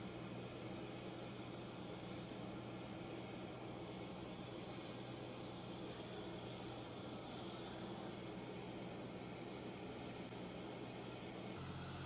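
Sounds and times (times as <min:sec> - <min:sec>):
machinery hiss: 0:00.0 - 0:12.0.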